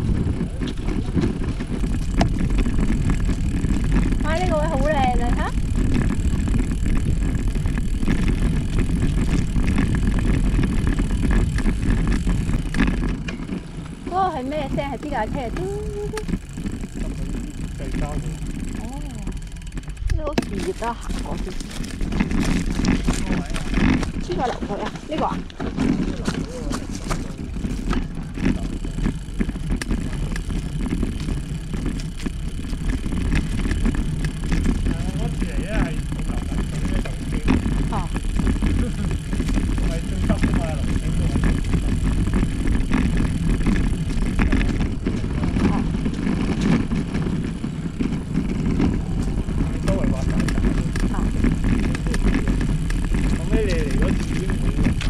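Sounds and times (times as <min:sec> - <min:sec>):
bicycle rolling noise: 0:00.0 - 0:55.0
tyre rumble on road: 0:00.0 - 0:55.0
wind buffeting microphone: 0:00.0 - 0:55.0.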